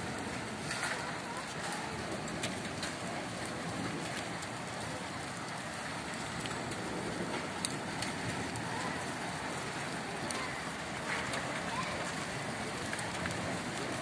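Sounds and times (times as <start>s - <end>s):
hailstones ticking: 0.0s - 14.0s
heavy rain hissing: 0.0s - 14.0s.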